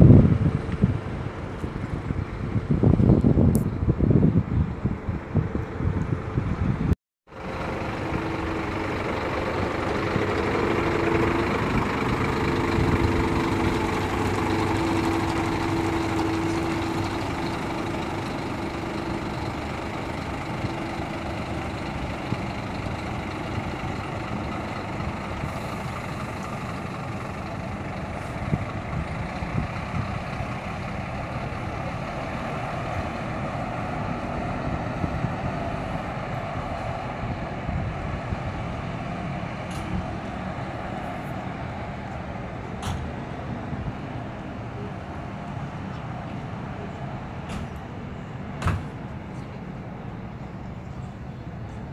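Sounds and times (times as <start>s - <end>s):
bus diesel engine pulling away: 0.0s - 51.9s
road noise: 0.0s - 51.9s.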